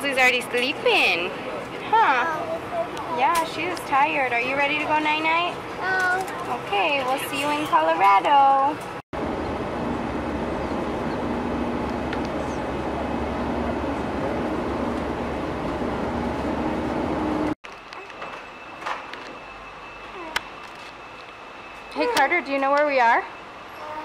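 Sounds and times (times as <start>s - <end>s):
airliner cabin roar: 0.0s - 20.0s
airport terminal hum: 0.0s - 24.0s.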